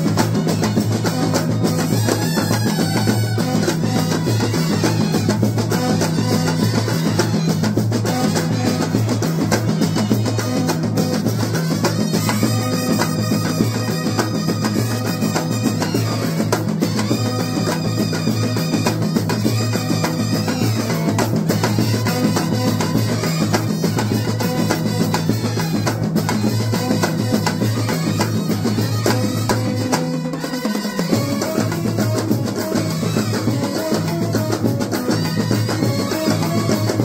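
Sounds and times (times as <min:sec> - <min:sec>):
pounding drum beat: 0:00.0 - 0:37.0
street band playing: 0:00.0 - 0:37.0.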